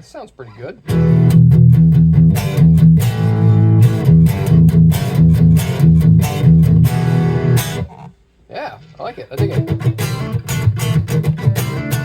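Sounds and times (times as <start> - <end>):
overdriven electric guitar chords strummed: 0.9 - 8.1, 9.4 - 12.0.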